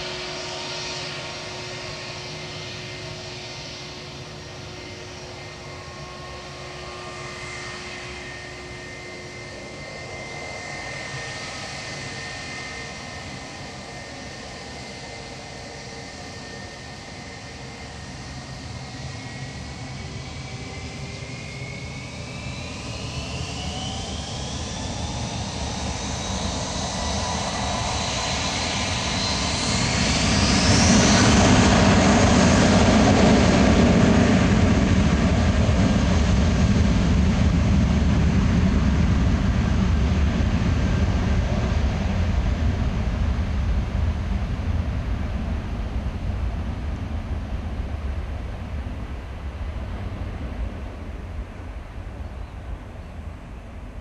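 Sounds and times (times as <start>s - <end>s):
jet engines spooling up: 0.0s - 52.7s.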